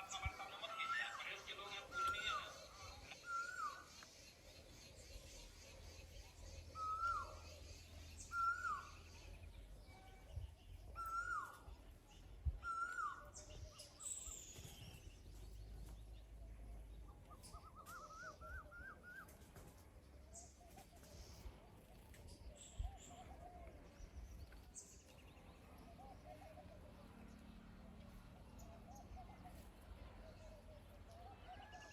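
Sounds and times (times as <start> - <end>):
birds calling: 0.0 - 31.9.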